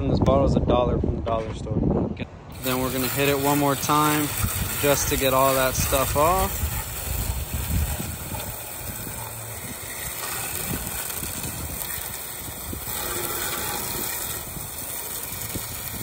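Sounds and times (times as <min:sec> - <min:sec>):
hose nozzle spraying water: 0:02.5 - 0:16.0.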